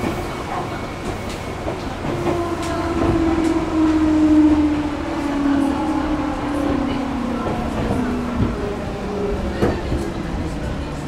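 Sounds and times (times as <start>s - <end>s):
rail clicks: 0.0s - 11.0s
train rumble: 0.0s - 11.0s.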